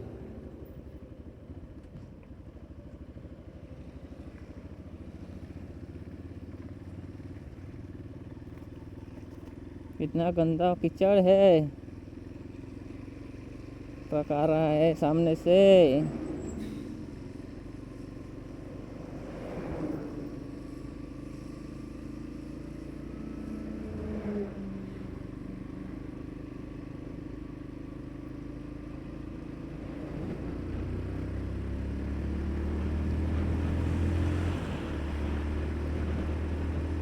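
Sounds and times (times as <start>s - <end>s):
motorcycle engine running: 0.0s - 37.0s
traffic: 0.0s - 37.0s.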